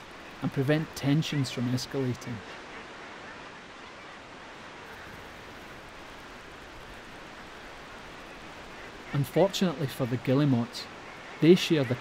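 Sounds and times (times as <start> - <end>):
steady rushing ambient noise: 0.0 - 12.0.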